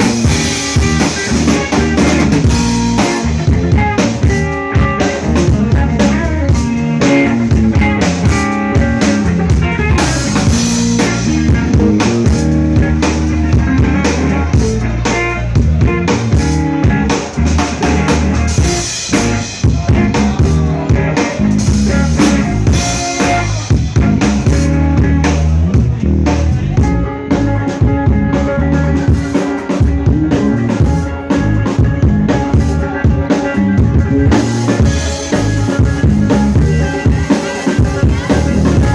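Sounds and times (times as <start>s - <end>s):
amplified electric guitar: 0.0s - 38.9s
blues band playing: 0.0s - 38.9s
drum kit steady beat: 0.0s - 38.9s.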